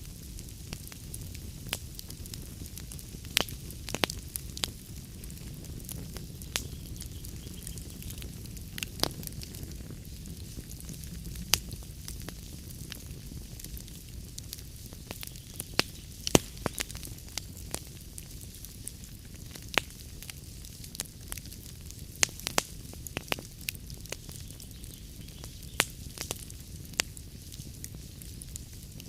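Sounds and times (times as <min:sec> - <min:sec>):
log fire crackling and popping: 0:00.0 - 0:29.0
low rumble and hiss of flames: 0:00.0 - 0:29.0.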